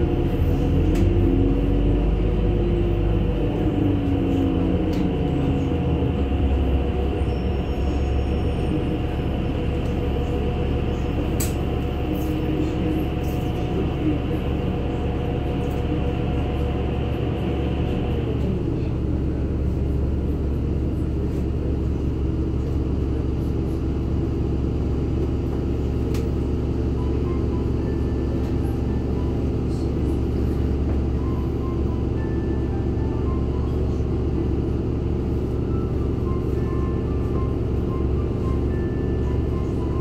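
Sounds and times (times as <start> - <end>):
bus engine humming and whining: 0.0 - 40.0.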